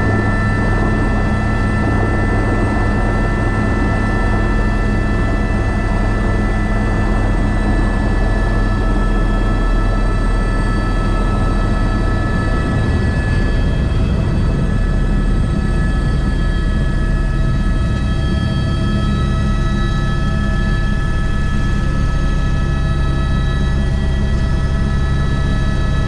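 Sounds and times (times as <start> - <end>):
helicopter rotor and engine drone: 0.0 - 26.0
high whine: 0.0 - 26.0.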